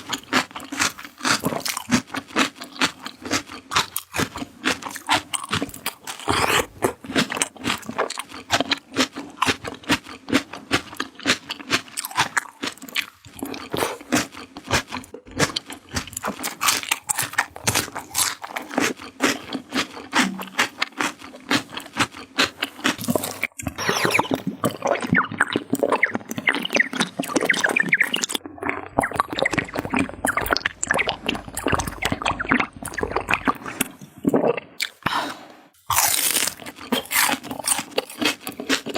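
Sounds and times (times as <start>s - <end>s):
person chewing crunchy vegetables: 0.0s - 38.9s.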